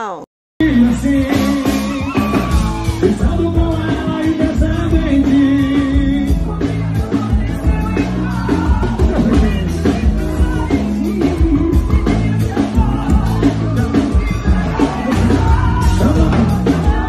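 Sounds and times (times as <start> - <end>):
live band with drum and bass: 0.6 - 17.0
man and woman singing: 0.6 - 17.0.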